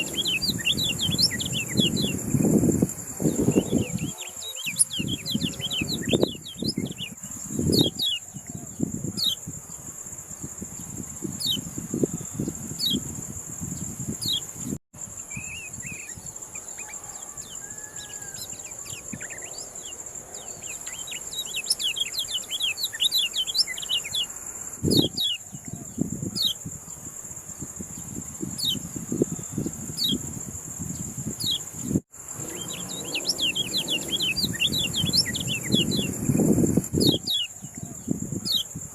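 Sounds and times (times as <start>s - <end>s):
songbird chirping: 0.0s - 9.5s, 10.4s - 38.8s
high-pitched insect drone: 0.0s - 38.9s.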